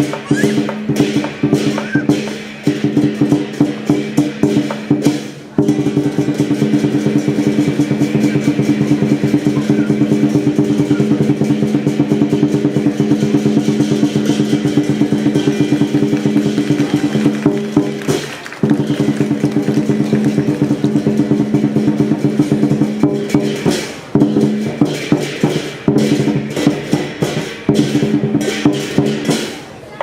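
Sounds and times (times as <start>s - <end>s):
cymbals and gongs ringing: 0.0s - 29.8s
drum beating: 0.0s - 30.0s.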